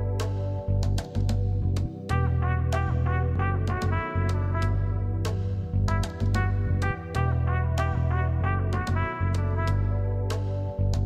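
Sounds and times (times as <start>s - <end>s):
brassy lead melody: 0.0s - 1.0s, 2.0s - 11.0s
heavy bass line: 0.0s - 11.0s.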